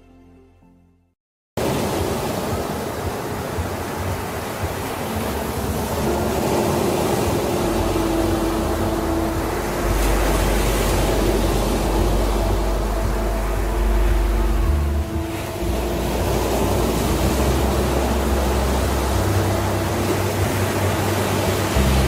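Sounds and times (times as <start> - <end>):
deep surf rumble: 1.6 - 22.0
waves breaking on beach: 1.6 - 22.0.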